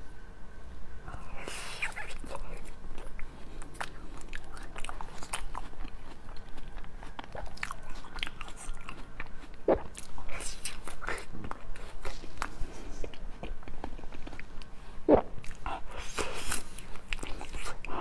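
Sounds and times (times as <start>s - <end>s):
crunchy bites and chewing: 2.9s - 18.0s.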